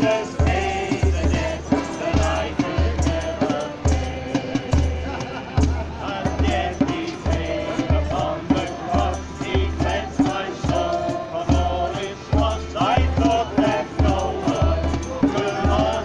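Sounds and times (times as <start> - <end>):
drum and bass beat: 0.0 - 16.0
voices singing a hymn: 0.0 - 16.0.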